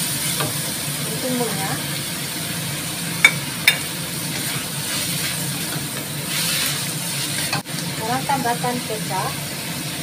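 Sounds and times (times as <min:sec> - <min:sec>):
vegetables sizzling in a wok: 0:00.0 - 0:10.0.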